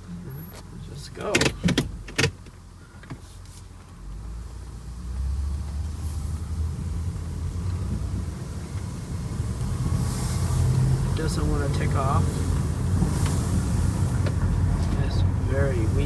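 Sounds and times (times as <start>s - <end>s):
engine rumbling under throttle: 0.0s - 16.0s.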